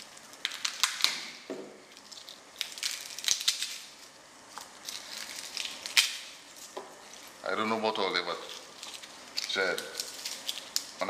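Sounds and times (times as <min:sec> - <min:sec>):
garlic skins crackling: 0:00.0 - 0:11.0.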